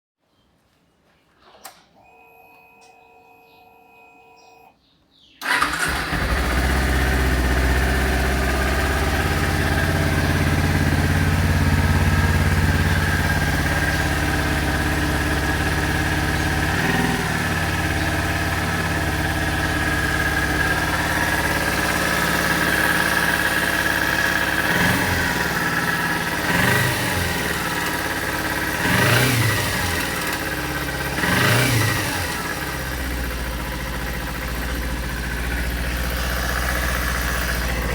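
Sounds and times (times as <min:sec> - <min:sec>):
engine revving with throttle blips: 0:05.4 - 0:37.9
motorcycle engine idling: 0:05.4 - 0:37.9.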